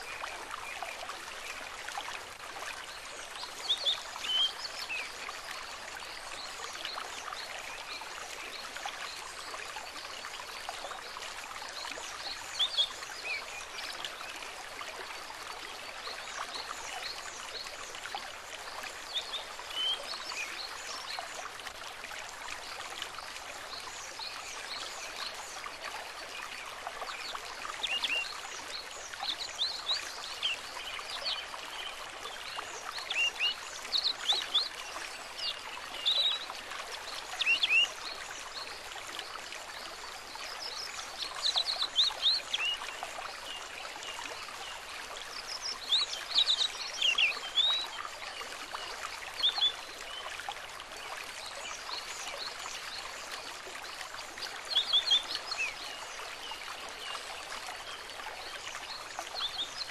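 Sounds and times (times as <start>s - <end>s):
stream babbling: 0.0s - 59.9s.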